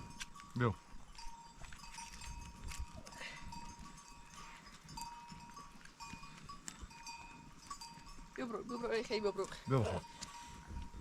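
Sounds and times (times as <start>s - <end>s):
small bells clinking: 0.0s - 11.0s.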